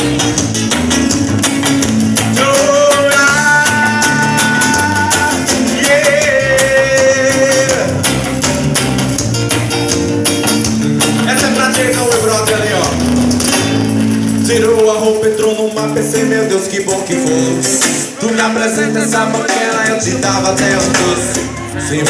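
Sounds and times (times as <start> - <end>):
guitar: 0.0 - 22.0
percussion beat: 0.0 - 22.0.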